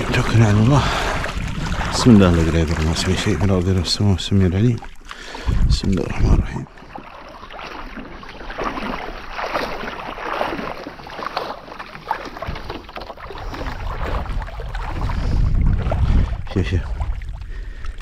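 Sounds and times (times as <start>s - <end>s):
sea water splashing: 0.0s - 18.0s.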